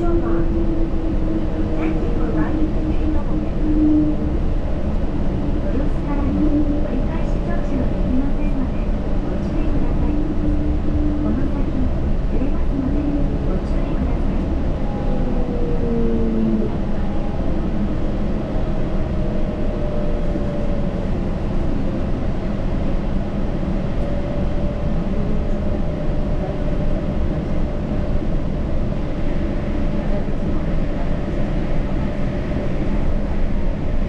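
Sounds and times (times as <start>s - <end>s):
train tyres rumbling: 0.0s - 34.0s.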